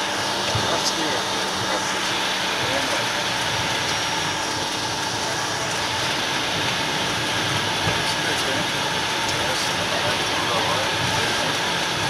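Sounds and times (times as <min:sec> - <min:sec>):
jet engines rushing hiss: 0:00.0 - 0:12.0.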